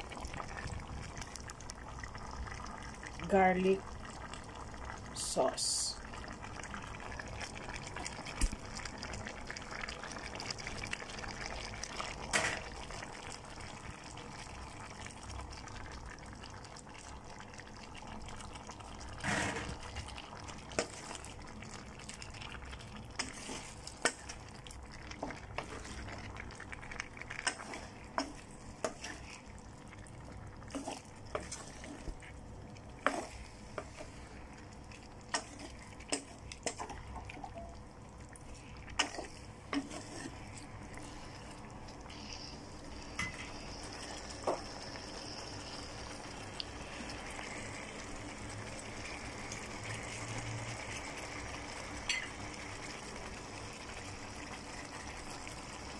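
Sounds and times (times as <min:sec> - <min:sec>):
food sizzling in a pan: 0:00.0 - 0:55.9.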